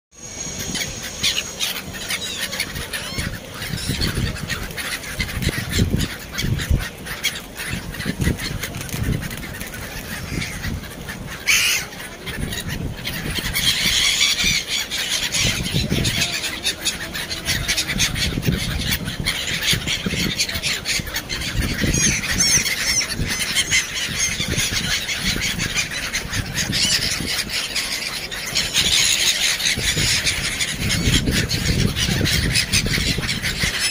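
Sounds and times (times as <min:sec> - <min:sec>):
gulls calling: 0:00.1 - 0:33.9.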